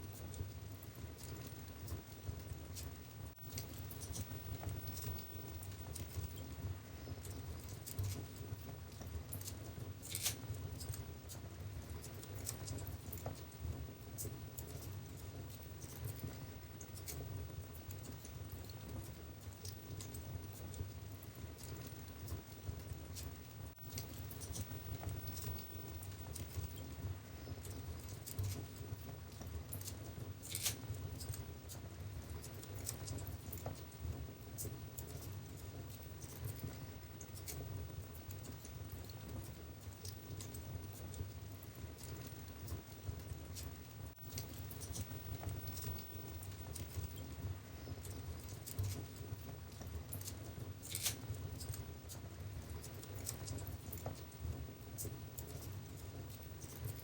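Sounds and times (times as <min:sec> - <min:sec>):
fire crackles and pops: 0:00.0 - 0:57.0
rumble of flames: 0:00.0 - 0:57.0.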